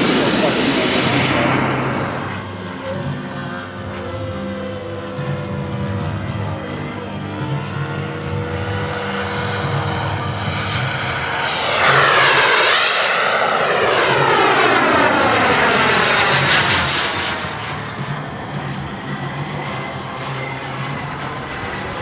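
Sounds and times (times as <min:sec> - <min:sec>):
model plane engine flying past: 0:00.0 - 0:22.0.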